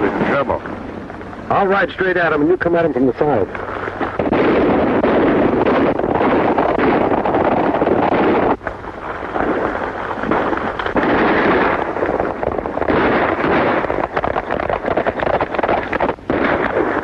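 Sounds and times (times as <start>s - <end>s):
horses galloping: 0.0s - 17.0s.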